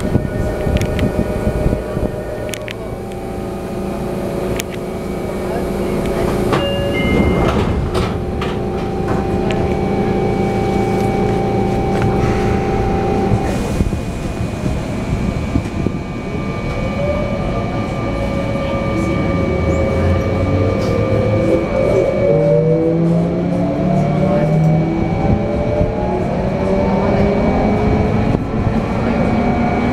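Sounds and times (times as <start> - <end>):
train car hum: 0.0 - 29.9
train doors shutting: 0.0 - 29.9
train motors whining: 0.0 - 29.9.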